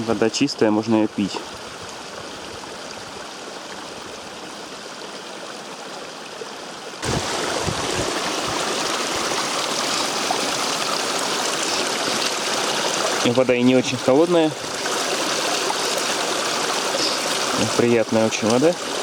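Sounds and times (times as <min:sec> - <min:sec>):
brook water over stones: 0:00.0 - 0:19.0.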